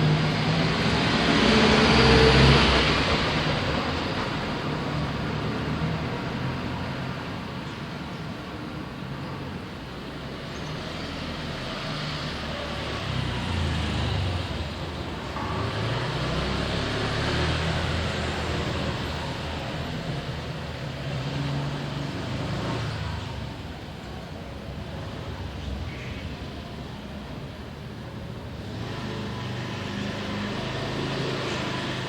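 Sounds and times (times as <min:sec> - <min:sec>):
background traffic noise: 0:00.0 - 0:32.0
vehicles passing: 0:00.0 - 0:32.0.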